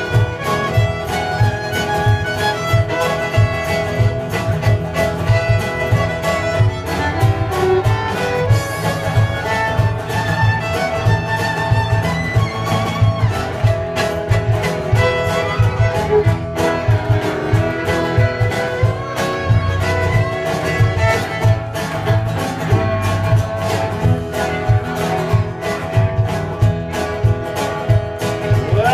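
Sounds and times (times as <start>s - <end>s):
fiddle melody: 0.0s - 28.9s
pulsing bass beat: 0.0s - 28.9s
strummed guitar: 0.0s - 28.9s.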